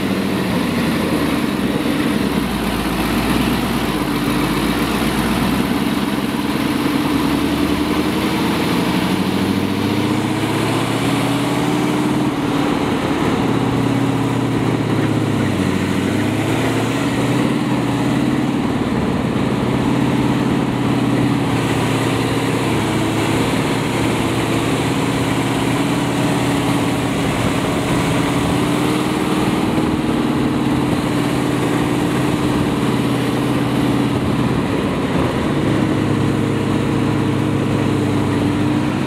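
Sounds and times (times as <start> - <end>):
tank engine running: 0.0 - 39.0.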